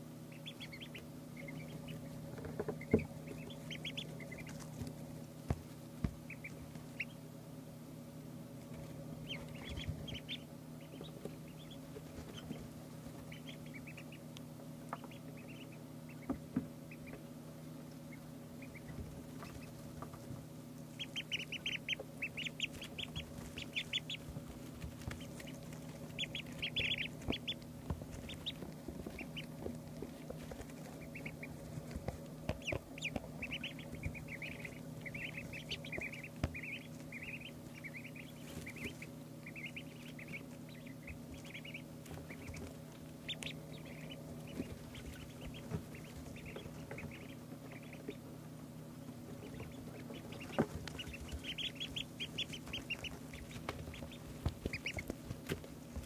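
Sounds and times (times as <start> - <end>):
ducklings peeping: 0.0 - 56.0
steady low hum: 0.0 - 56.0.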